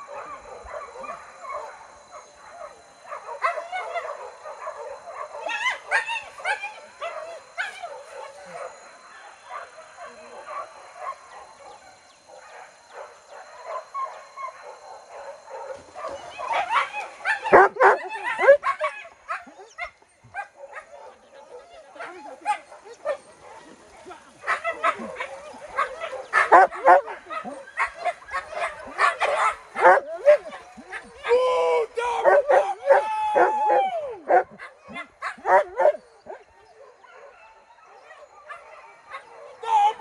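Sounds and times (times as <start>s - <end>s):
hunting dogs yelping and baying: 0.0s - 40.0s.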